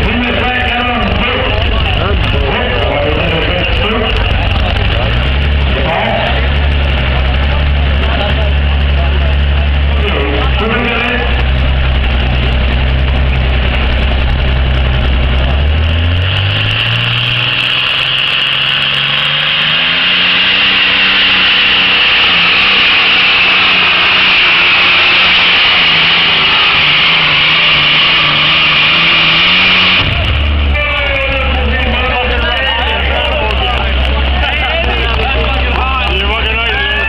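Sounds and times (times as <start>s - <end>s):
aircraft engine revving: 0.0s - 37.0s.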